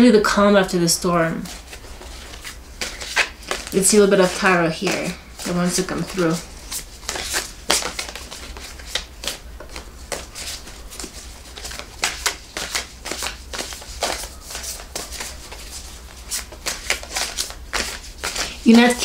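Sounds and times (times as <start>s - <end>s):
low steady hum: 0.0s - 19.0s
cards being shuffled: 1.4s - 19.0s.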